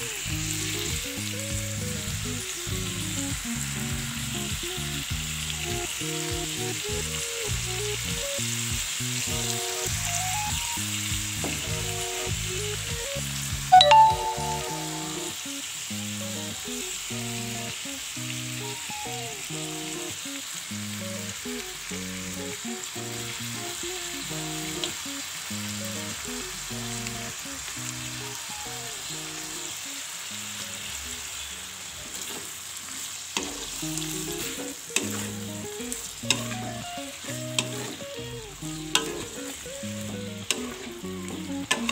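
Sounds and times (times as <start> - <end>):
background music: 0.0 - 29.9, 33.8 - 41.9
chicken sizzling in a wok: 0.0 - 41.9.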